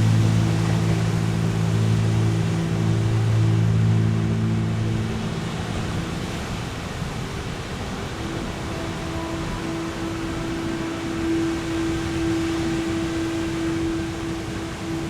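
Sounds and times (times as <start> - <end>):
higher held tone: 0.0 - 6.2, 7.8 - 15.0
low meditation drone: 0.0 - 15.0
ocean surf: 0.0 - 15.0.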